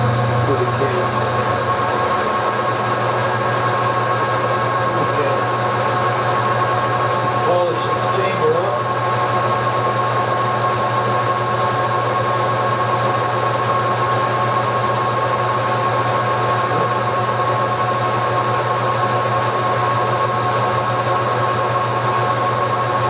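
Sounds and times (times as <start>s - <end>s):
metal lathe running: 0.0s - 23.0s.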